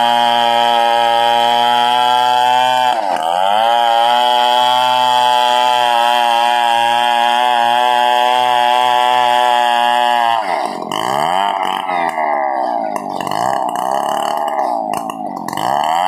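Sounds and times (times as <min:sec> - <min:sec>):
chainsaw cutting wood at high revs: 0:00.0 - 0:16.0.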